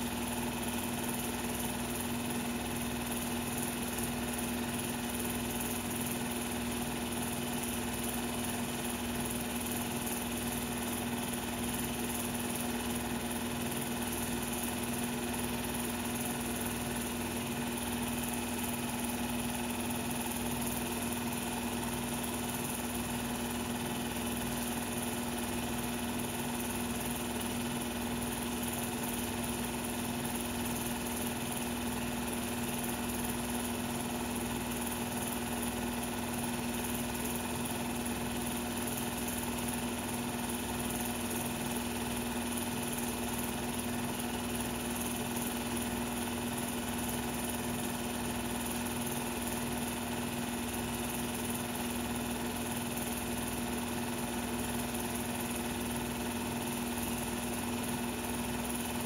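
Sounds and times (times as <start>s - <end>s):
film projector motor hum: 0.0s - 59.0s.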